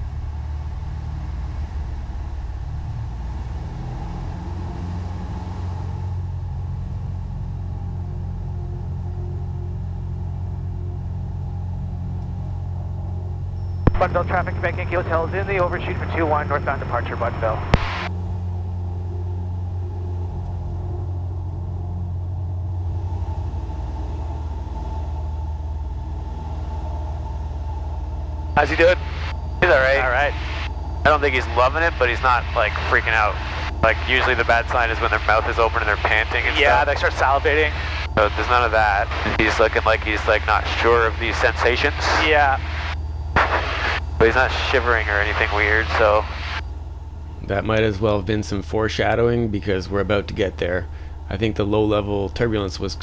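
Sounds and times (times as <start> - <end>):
airplane engine drone in cabin: 0.0 - 53.0.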